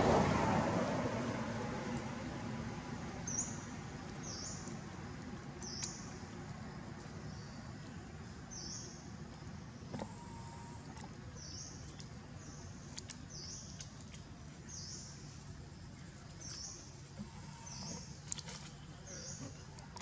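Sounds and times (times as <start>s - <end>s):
steady low background noise: 0.0s - 20.0s.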